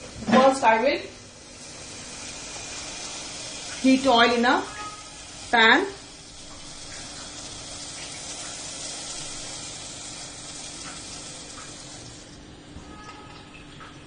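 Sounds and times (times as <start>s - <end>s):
oil hissing in pan: 0.0s - 12.4s.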